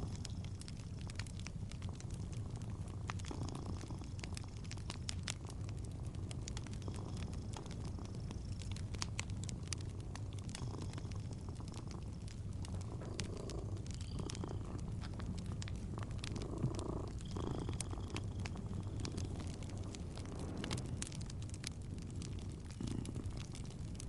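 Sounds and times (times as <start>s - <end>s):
cat purring: 0.0s - 24.0s
fireplace crackling: 0.0s - 24.0s.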